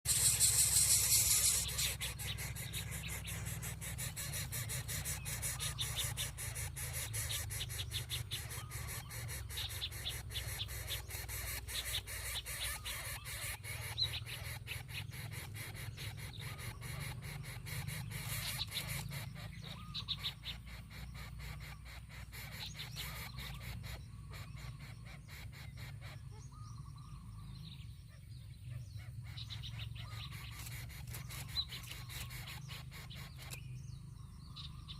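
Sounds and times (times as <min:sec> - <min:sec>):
bird calls and chirps: 0:00.0 - 0:34.9.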